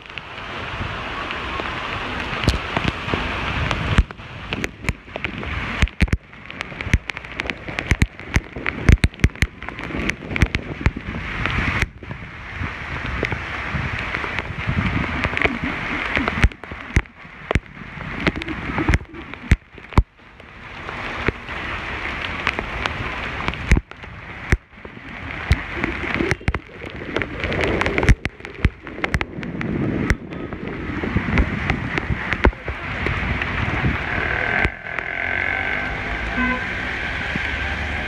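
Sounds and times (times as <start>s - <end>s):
rain falling: 0.0s - 38.0s
raindrops tapping phone: 0.0s - 38.0s
wind buffeting microphone: 0.0s - 38.0s.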